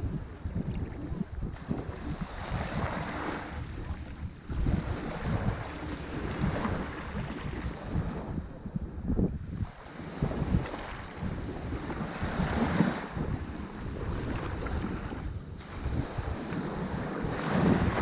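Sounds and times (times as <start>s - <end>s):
ocean waves breaking on shore: 0.0s - 18.0s
wind buffeting microphone: 0.0s - 18.0s.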